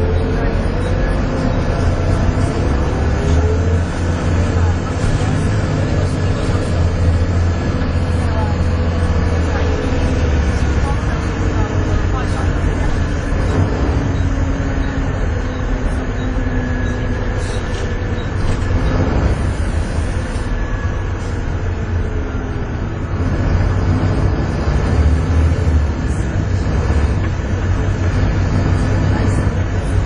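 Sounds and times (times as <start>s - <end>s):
bus diesel engine rumbling: 0.0s - 30.0s.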